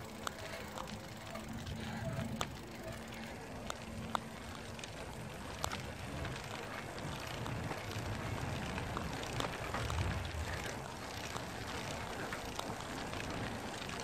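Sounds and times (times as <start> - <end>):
sharp clicks and rattles: 0.0 - 14.0
wheels rolling on tarmac: 0.0 - 14.0.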